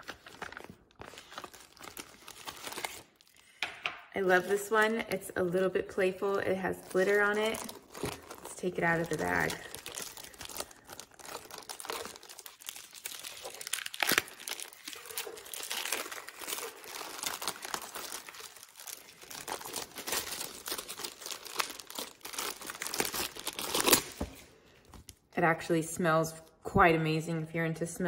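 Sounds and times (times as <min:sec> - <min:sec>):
plastic bag crinkling: 0:00.0 - 0:03.6, 0:06.2 - 0:25.2.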